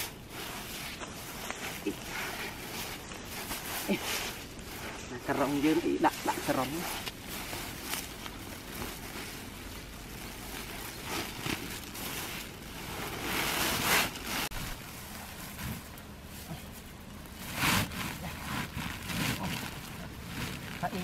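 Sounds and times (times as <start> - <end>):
mesh net rustling: 0.0 - 21.0
plastic sack swishing: 0.0 - 21.0.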